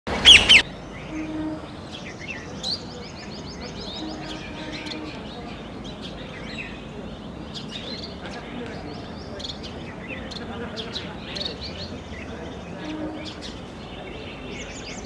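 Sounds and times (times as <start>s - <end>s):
birds chirping and calling: 0.1s - 15.0s.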